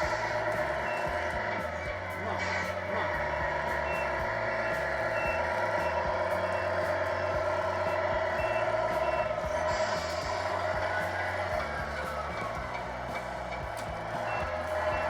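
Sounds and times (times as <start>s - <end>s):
diesel engine hum: 0.0s - 15.0s
reversing beeps: 0.0s - 15.0s.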